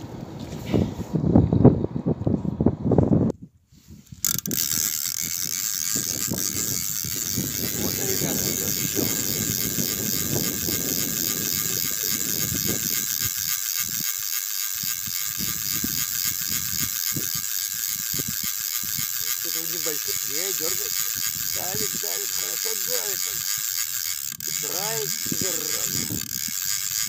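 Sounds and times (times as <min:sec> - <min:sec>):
fishing reel whirring and ticking: 0:04.1 - 0:27.0.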